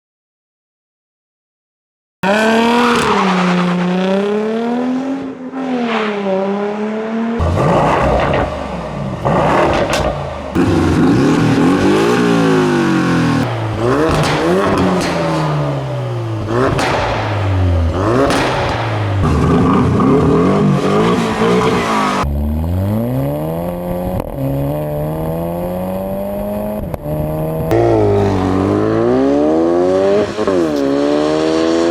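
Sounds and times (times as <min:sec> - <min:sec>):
car engines revving and accelerating: 0:02.2 - 0:31.9.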